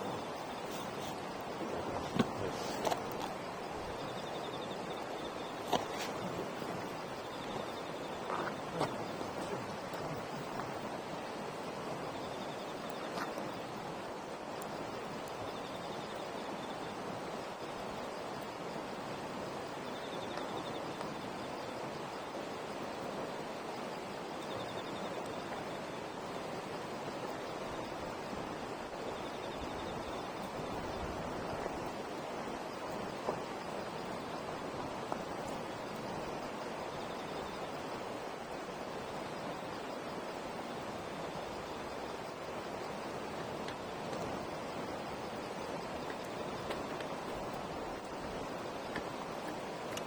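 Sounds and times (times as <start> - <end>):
campfire hissing and crackling: 0.0 - 50.0.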